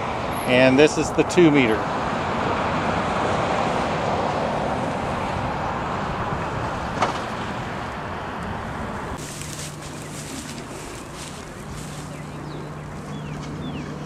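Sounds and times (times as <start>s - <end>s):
steady rushing outdoor noise: 0.0s - 14.0s.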